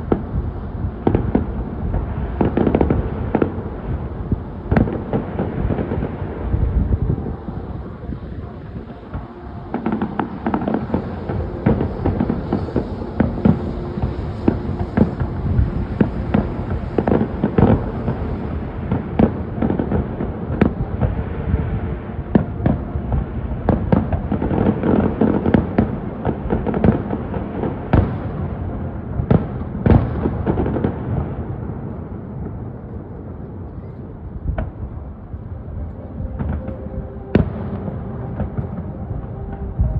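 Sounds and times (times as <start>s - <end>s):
continuous rumble: 0.0s - 39.9s
fireworks banging and crackling: 0.0s - 39.9s.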